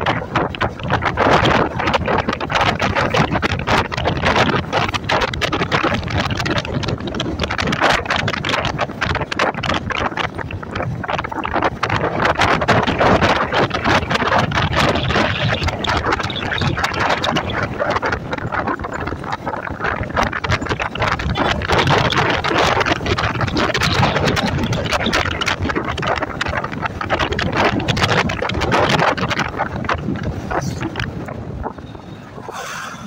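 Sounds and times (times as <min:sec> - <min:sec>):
road noise: 0:00.0 - 0:33.0
wind buffeting microphone: 0:00.0 - 0:33.0.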